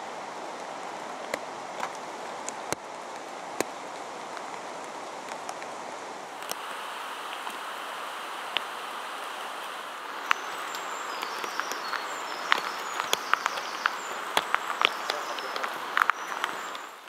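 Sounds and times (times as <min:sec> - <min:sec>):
steady rain hiss: 0:00.0 - 0:17.0
drops striking wet leaves: 0:00.6 - 0:17.0.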